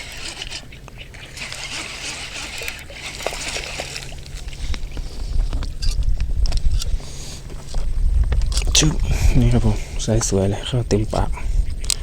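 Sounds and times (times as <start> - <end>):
water sloshing: 0.0 - 11.3
wind buffeting microphone: 0.0 - 12.0.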